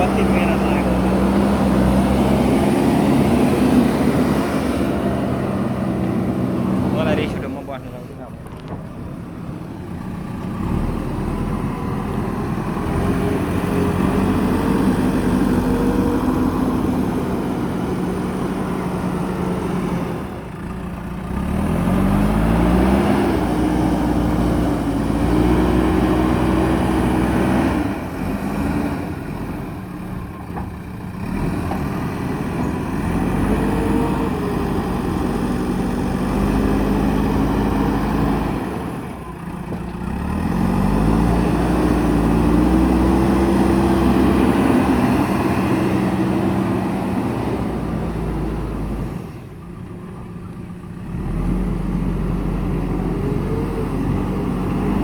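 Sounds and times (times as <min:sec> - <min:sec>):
diesel engine revving under load: 0:00.0 - 0:55.0.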